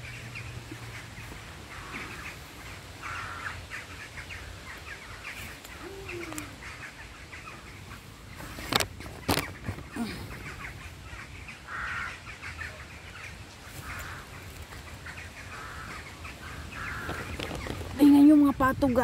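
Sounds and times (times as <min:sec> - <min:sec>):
low gliding bird call: 0:00.0 - 0:17.8
birds calling: 0:00.0 - 0:19.0.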